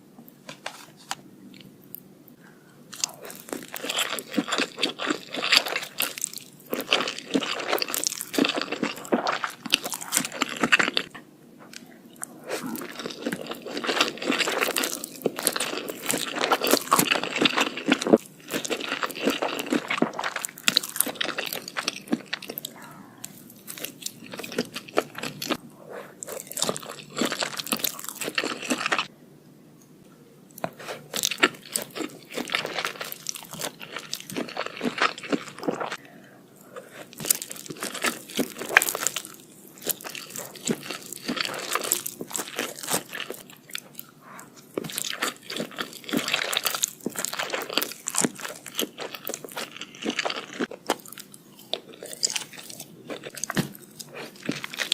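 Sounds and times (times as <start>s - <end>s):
chewing crunchy food: 2.9s - 29.1s, 30.5s - 54.9s.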